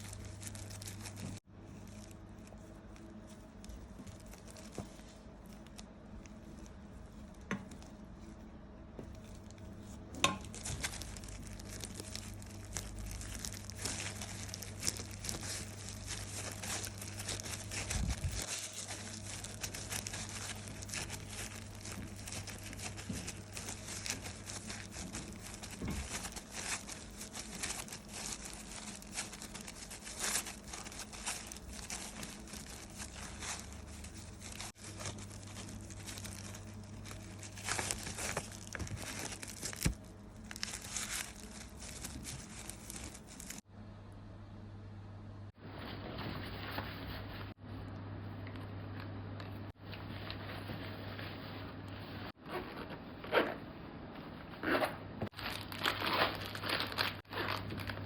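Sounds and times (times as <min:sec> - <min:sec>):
dense crinkling and crackling: 0:00.0 - 0:43.7, 0:49.5 - 0:53.4, 0:54.2 - 0:58.0
steady low hum: 0:00.0 - 0:58.0.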